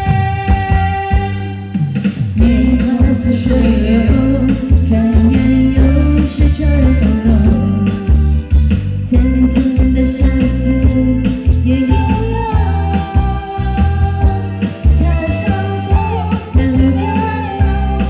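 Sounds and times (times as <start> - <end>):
instrumental pop music: 0.0 - 18.0.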